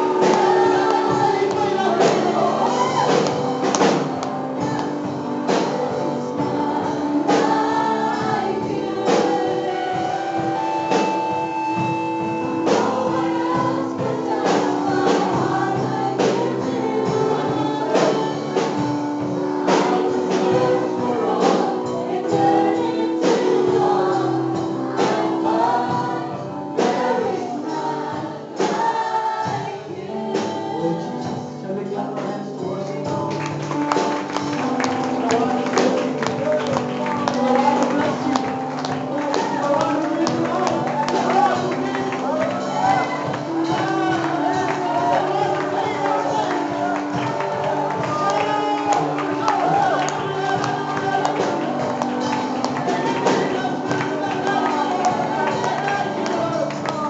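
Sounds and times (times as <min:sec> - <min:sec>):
group singing worship song: 0:00.0 - 0:57.0
instrumental accompaniment: 0:00.0 - 0:57.0.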